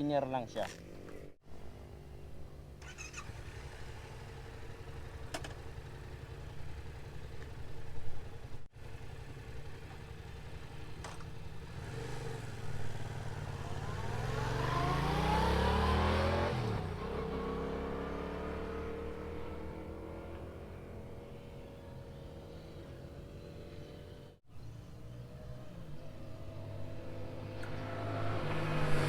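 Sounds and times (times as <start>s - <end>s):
motorcycle passing by: 2.8s - 29.0s.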